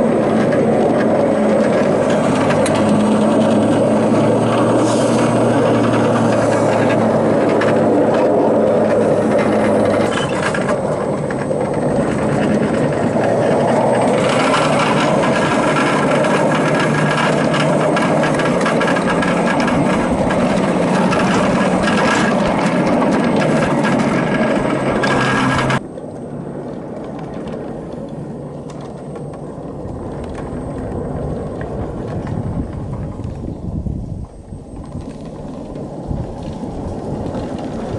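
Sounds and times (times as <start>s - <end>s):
electric motor and gear hum: 0.0s - 37.9s
wheels clattering on track: 0.0s - 37.9s.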